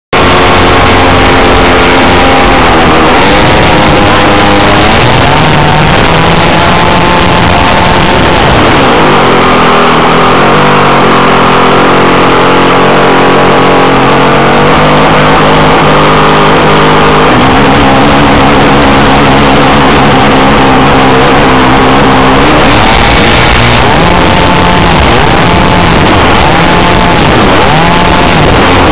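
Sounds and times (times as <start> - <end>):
model plane engine running: 0.2 - 28.9.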